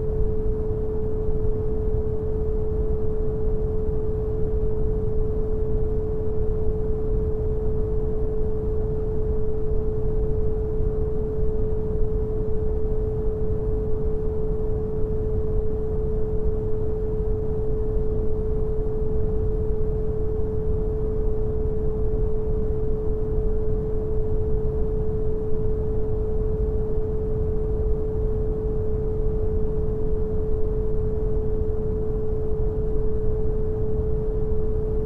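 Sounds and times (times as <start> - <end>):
sine tone: 0.0 - 35.0.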